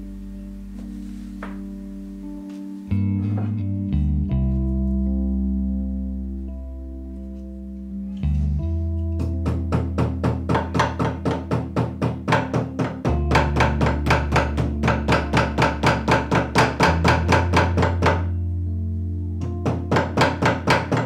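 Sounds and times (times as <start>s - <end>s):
calm background music: 0.0s - 21.0s.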